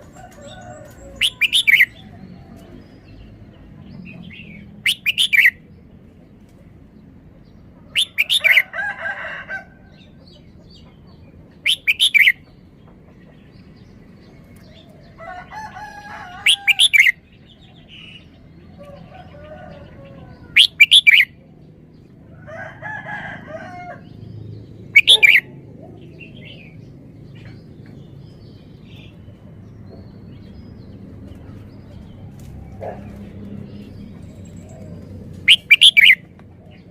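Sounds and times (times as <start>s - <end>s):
bird singing: 0.0s - 5.7s, 7.9s - 8.7s, 10.0s - 22.1s, 24.1s - 36.9s.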